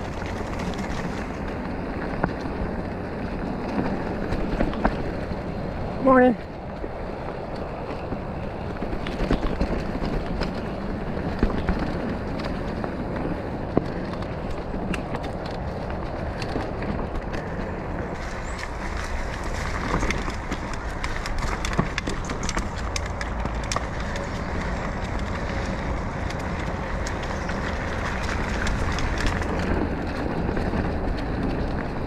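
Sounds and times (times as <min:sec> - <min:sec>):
bike clicking and rattling: 0:00.0 - 0:32.0
bike tyres rolling on dirt: 0:00.0 - 0:32.0.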